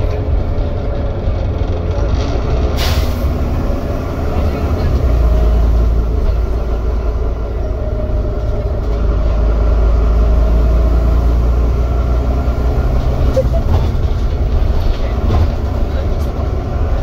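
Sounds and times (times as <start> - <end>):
bus engine rumbling: 0.0 - 17.0
road noise: 0.0 - 17.0.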